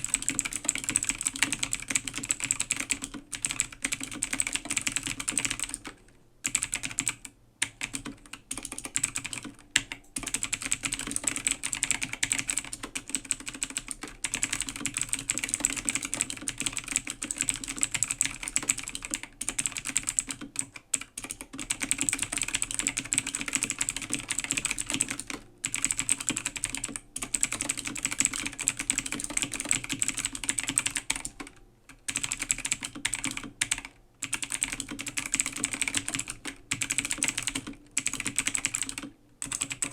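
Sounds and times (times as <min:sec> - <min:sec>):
clicky keyboard typing: 0:00.0 - 0:39.9.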